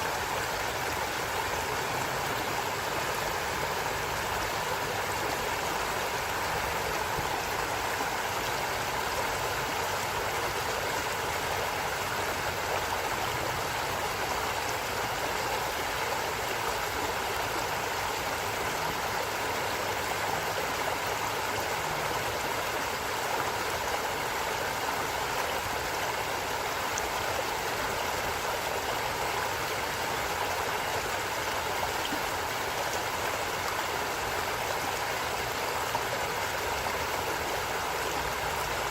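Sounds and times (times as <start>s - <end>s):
stream of water running: 0.0s - 38.9s.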